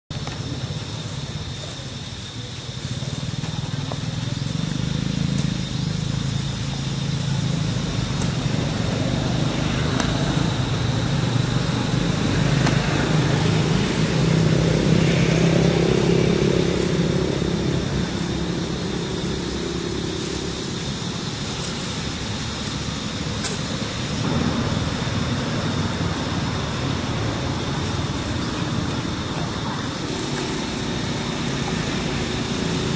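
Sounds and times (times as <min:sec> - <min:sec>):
vehicle engine humming: 0:00.1 - 0:32.9.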